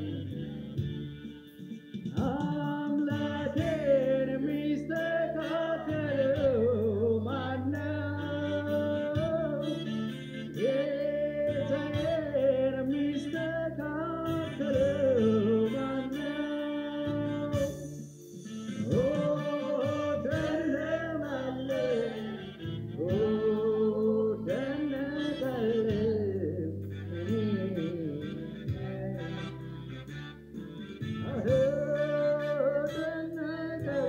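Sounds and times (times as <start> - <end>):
man singing into microphone: 0.0 - 0.9, 2.1 - 17.8, 18.8 - 29.7, 31.2 - 34.0
electronic keyboard chords: 0.0 - 34.0.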